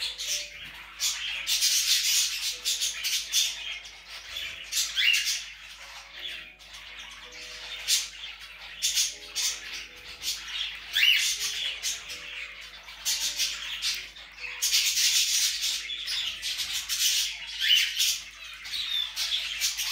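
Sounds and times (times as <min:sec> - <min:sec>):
cockatiels squawking: 0:00.0 - 0:19.9.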